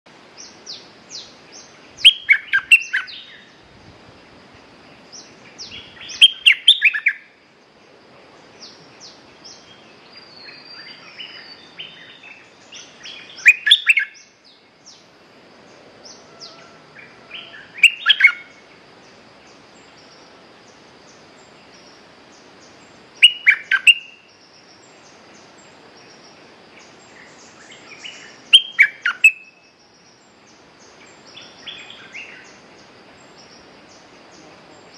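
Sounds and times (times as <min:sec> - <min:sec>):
bird chirping song: 0:00.3 - 0:03.9, 0:04.5 - 0:07.6, 0:08.3 - 0:34.9.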